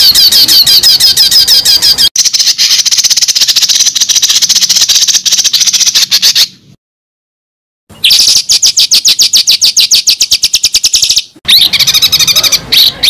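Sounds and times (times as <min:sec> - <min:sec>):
bird chirping and chattering: 0:00.0 - 0:06.6, 0:07.9 - 0:13.0.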